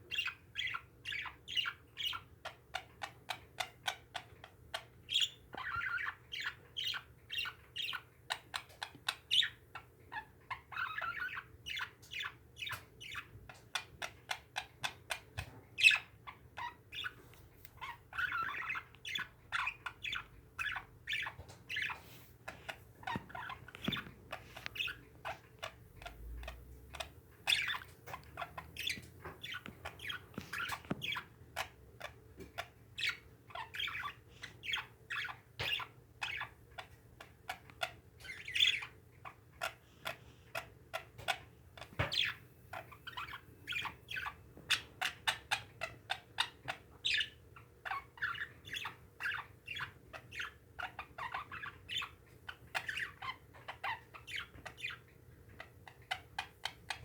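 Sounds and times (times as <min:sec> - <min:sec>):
parakeets chattering: 0:00.0 - 0:57.0.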